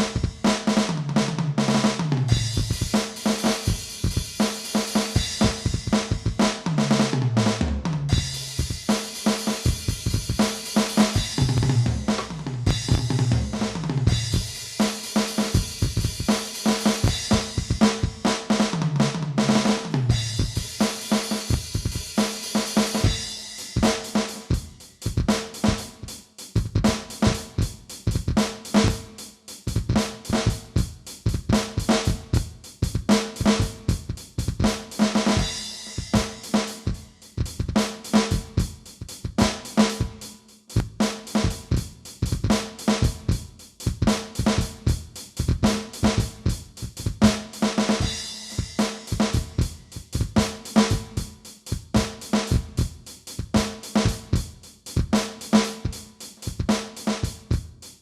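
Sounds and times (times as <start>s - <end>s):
electronic drum kit groove: 0.0s - 58.0s.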